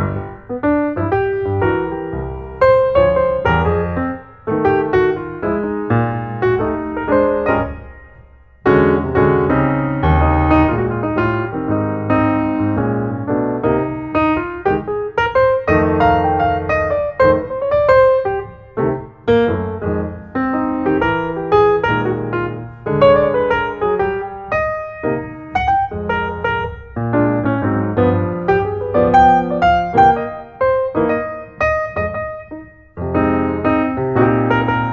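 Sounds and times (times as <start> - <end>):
solo piano music: 0.0 - 34.9.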